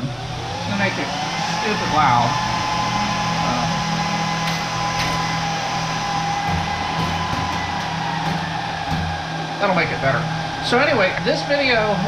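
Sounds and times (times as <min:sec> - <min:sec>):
server cooling fans whirring: 0:00.0 - 0:12.0.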